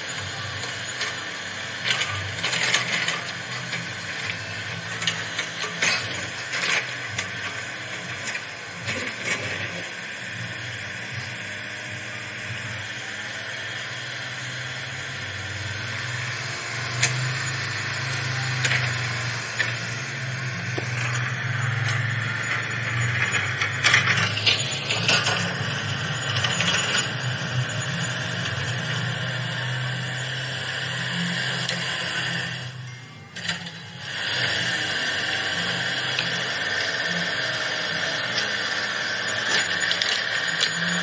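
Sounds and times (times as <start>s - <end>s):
toy motors and gears whirring: 0.0s - 41.0s.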